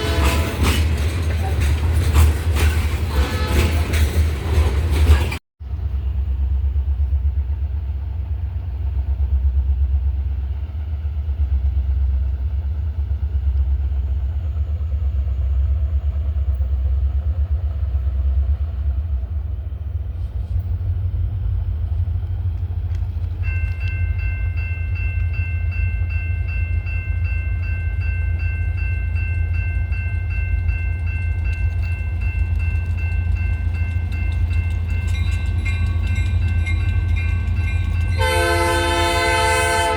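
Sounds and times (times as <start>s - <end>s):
freight train rumbling by: 0.0s - 39.9s.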